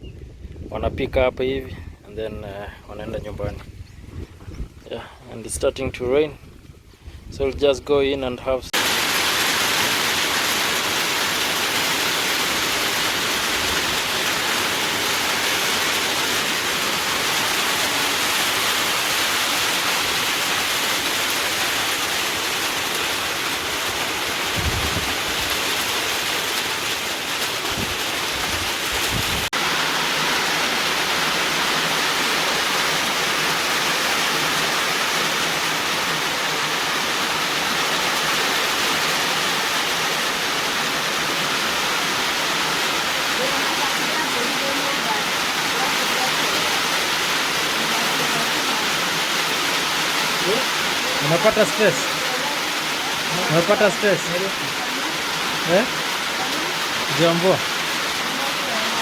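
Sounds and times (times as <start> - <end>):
heavy rain: 8.7 - 59.0.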